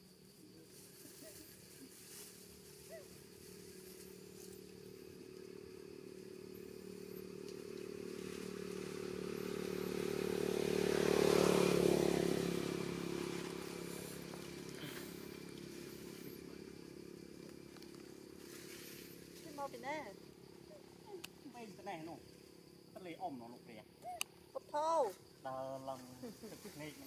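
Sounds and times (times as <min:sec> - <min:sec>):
motorcycle engine passing by: 0:00.8 - 0:23.2.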